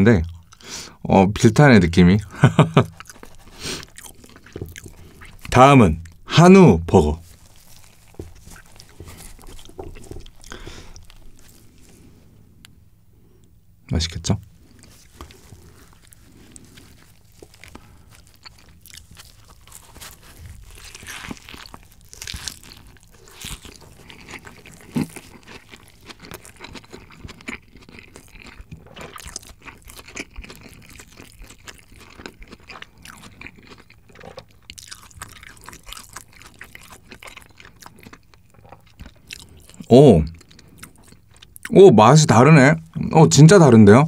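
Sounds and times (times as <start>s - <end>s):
burger being chewed with crunching: 2.0s - 6.2s, 7.2s - 12.8s, 14.5s - 43.1s.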